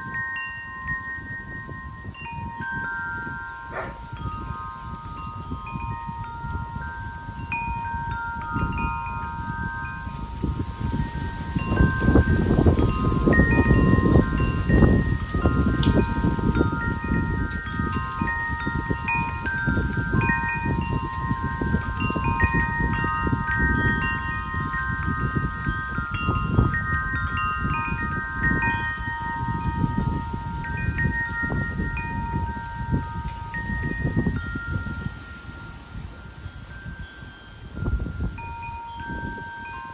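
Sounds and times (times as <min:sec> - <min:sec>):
wind chimes ringing: 0:00.0 - 0:39.9
wind gusts rumbling on microphone: 0:00.0 - 0:39.9.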